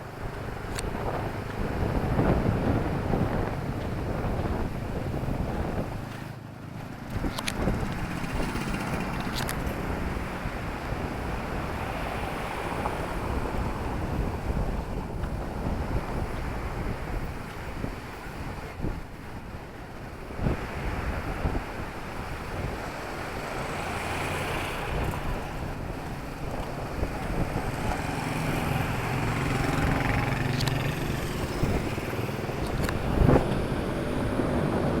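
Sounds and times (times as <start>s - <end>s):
street noise: 0.0s - 35.0s
vehicle engine hum: 0.0s - 35.0s.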